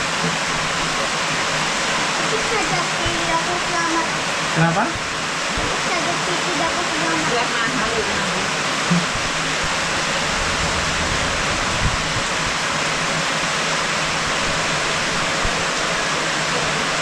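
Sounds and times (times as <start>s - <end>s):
heavy rain downpour: 0.0s - 17.0s.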